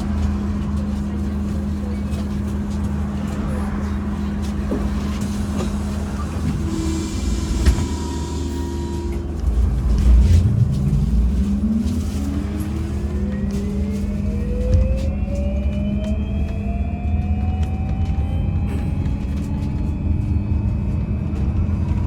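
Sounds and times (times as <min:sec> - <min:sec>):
road rumble: 0:00.0 - 0:22.0.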